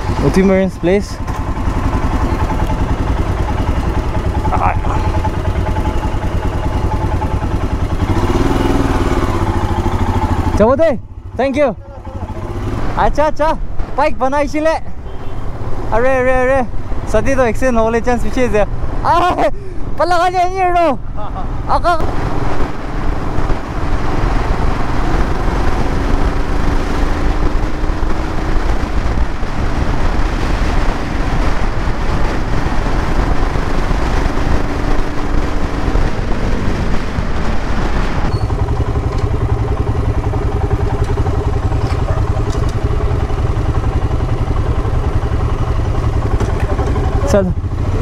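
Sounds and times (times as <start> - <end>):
motorcycle engine: 0.0 - 48.0
wind and road noise: 0.0 - 48.0.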